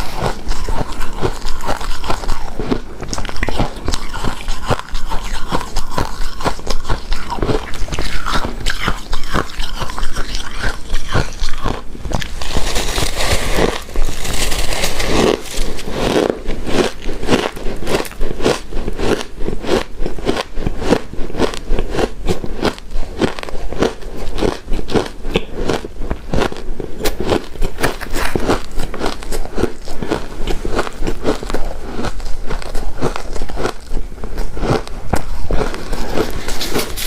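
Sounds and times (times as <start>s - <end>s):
chewing icy crunches: 0.0s - 37.0s.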